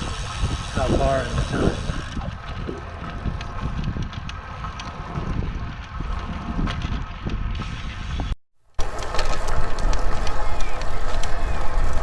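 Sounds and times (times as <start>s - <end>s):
tyres rolling on trail: 0.0s - 7.9s, 8.6s - 12.0s
wind buffeting microphone: 0.0s - 12.0s.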